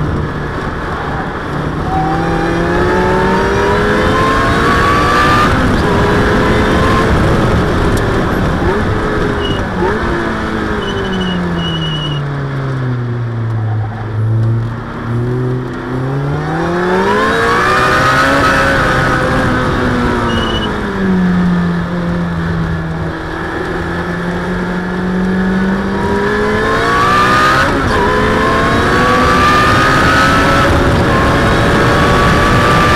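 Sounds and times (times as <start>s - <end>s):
car engine revving: 0.0s - 32.9s
wind and road noise: 0.0s - 32.9s.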